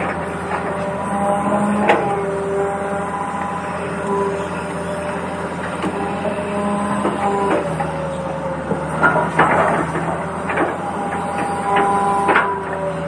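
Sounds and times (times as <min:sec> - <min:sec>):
toy excavator motors whining: 0:00.0 - 0:13.0.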